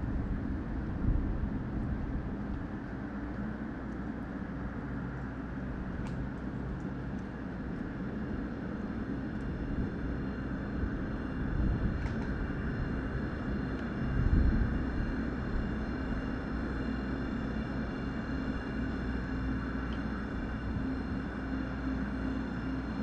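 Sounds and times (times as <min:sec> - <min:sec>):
low engine-like rumble: 0:00.0 - 0:23.0.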